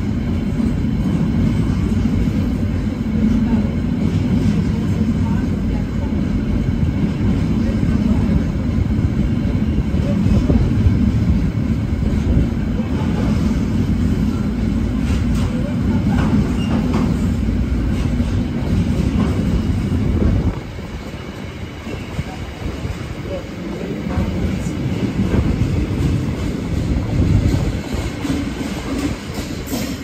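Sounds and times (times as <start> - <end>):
rail clicks: 0.0 - 30.0
train wheels rumbling on track: 0.0 - 30.0.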